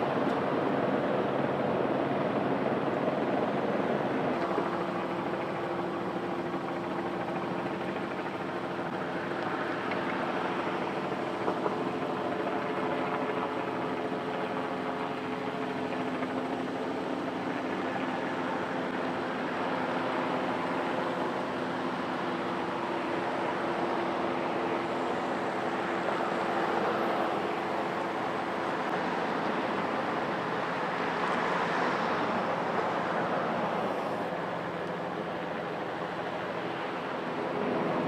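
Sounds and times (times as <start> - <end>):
helicopter rotor and engine: 0.0 - 38.0
turbine whine: 0.0 - 38.0.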